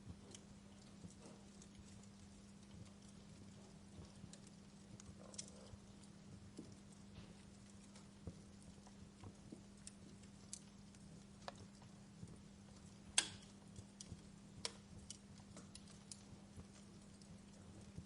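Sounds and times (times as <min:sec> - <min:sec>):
faint low hum: 0:00.0 - 0:18.0
fire crackling and popping: 0:00.0 - 0:18.0.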